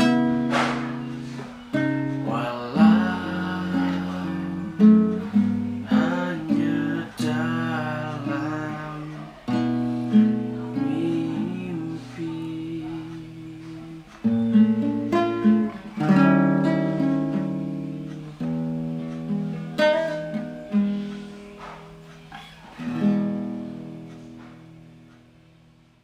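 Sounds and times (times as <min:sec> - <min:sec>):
classical guitar plucked notes: 0:00.0 - 0:25.7.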